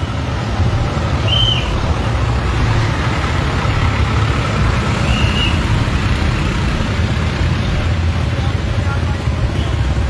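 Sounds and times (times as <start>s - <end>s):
large vehicle engines passing: 0.0s - 10.0s.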